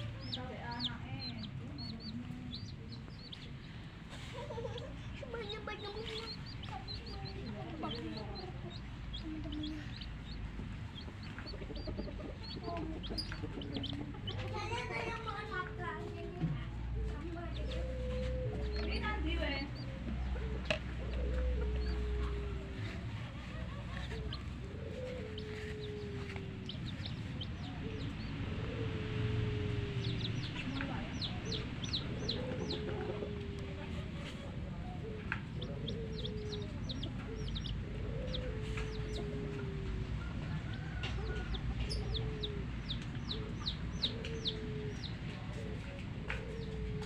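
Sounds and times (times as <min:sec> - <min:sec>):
clucking calls: 0:00.0 - 0:16.2, 0:17.0 - 0:47.0
baby chicks peeping: 0:00.0 - 0:47.0.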